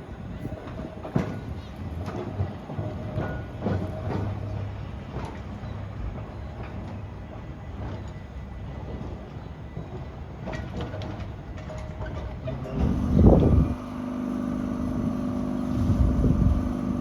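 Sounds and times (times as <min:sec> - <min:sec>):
electric tram humming: 0:00.0 - 0:17.0.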